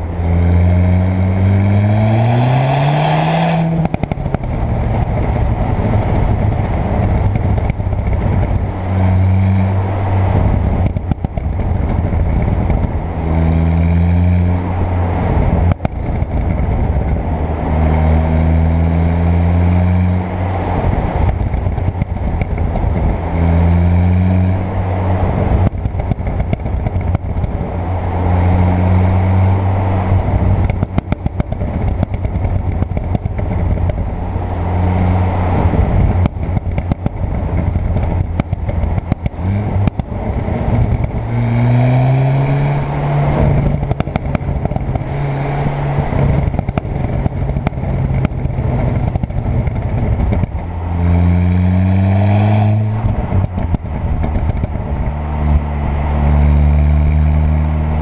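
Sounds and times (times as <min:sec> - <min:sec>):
exhaust crackles and pops: 0:00.0 - 0:14.5, 0:15.1 - 0:17.4, 0:18.2 - 0:28.0, 0:28.9 - 0:58.0
turbo engine pulling: 0:00.0 - 0:58.0.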